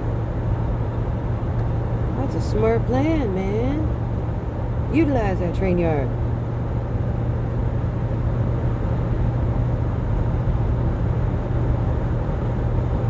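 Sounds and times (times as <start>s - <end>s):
car cabin road and engine drone: 0.0s - 13.0s.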